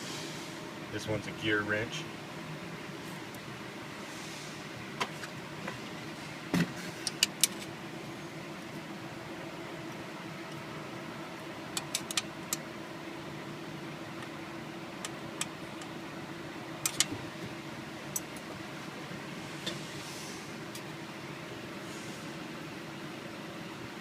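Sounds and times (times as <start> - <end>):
steady shop hum: 0.0 - 24.0.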